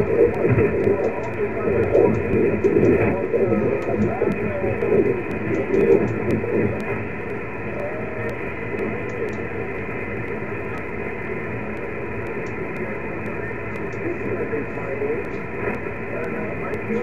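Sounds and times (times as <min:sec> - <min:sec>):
weak radio voice: 0:00.0 - 0:11.0, 0:11.6 - 0:17.0
radio band noise hiss: 0:00.0 - 0:17.0.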